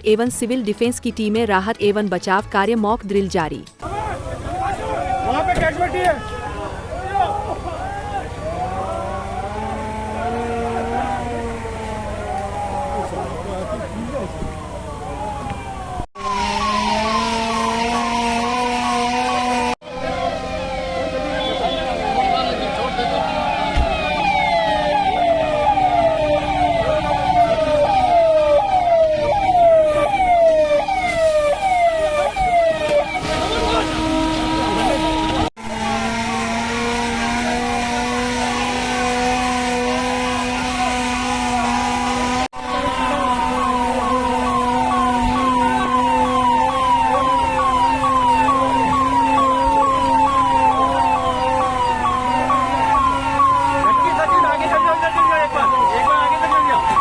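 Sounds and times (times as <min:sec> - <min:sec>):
emergency siren wailing: 0:03.8 - 0:57.0
second siren: 0:03.8 - 0:57.0.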